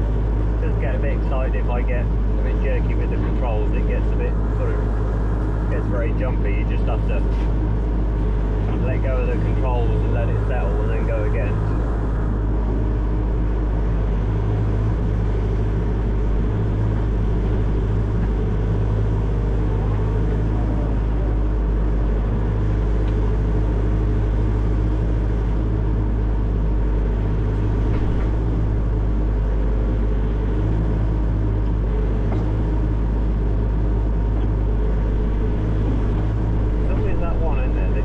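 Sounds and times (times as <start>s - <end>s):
excavator diesel engine running: 0.0s - 25.0s, 25.6s - 38.0s.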